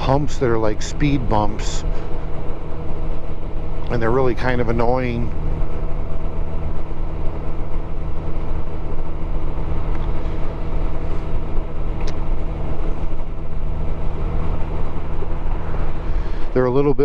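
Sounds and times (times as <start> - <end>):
motorcycle engine cruising: 0.0 - 16.8
wind and road noise: 0.0 - 17.0.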